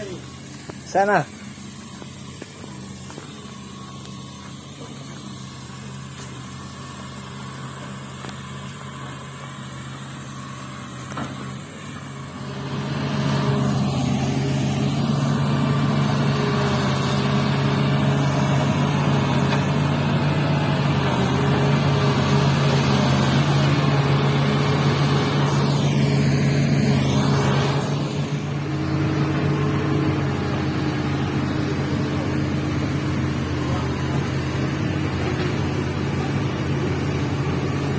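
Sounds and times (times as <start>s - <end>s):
excavator diesel engine revving: 0.0s - 37.9s.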